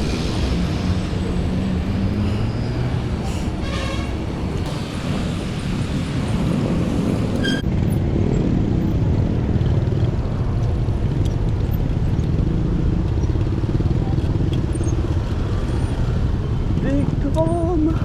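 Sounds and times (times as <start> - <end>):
road traffic rumble: 0.0 - 17.3.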